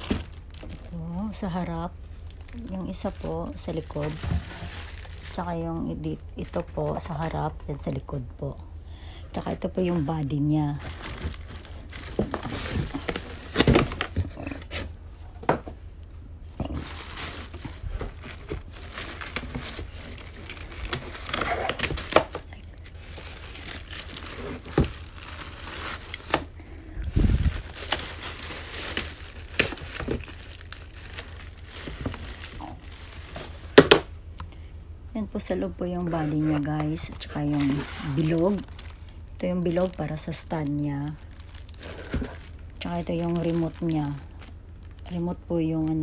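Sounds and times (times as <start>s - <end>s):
plastic bags crinkling: 0.0s - 8.2s, 9.4s - 15.8s, 16.5s - 34.1s, 35.5s - 45.4s.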